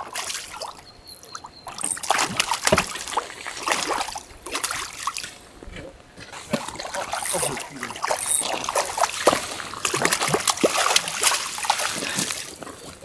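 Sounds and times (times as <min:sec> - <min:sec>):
fish thrashing and splashing: 0:00.0 - 0:05.4, 0:06.3 - 0:12.9.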